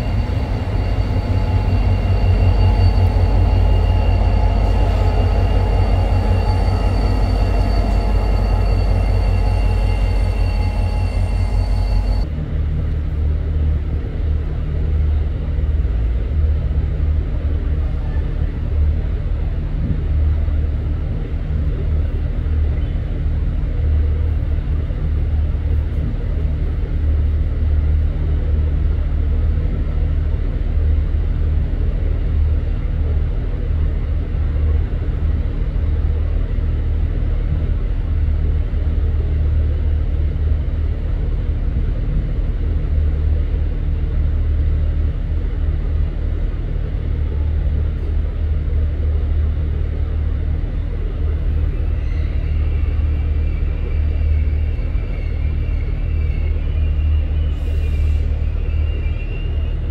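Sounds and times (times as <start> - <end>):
steady low machinery rumble: 0.0 - 59.9
train rumble with squealing: 0.0 - 59.9.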